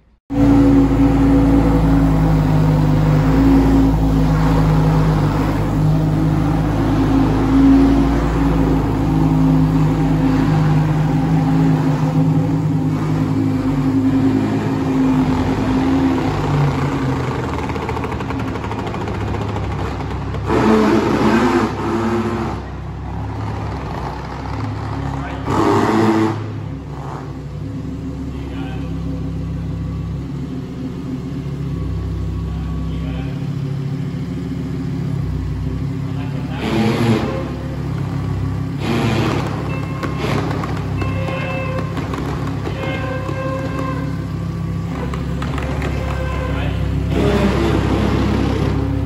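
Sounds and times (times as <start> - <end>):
car engine idling: 0.0 - 49.0
engine revving burst: 0.3 - 27.4, 36.1 - 49.0.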